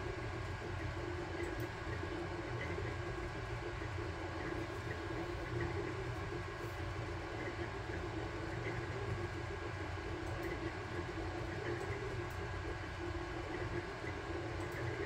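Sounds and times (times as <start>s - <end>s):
fan hum: 0.0s - 15.0s.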